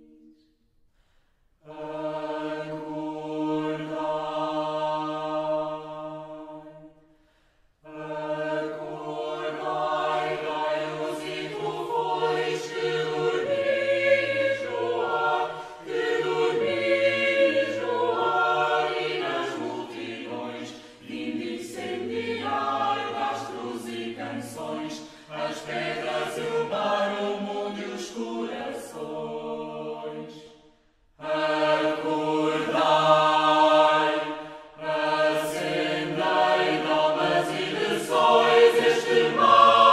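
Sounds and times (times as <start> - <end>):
choir singing long chords: 1.6 - 39.9.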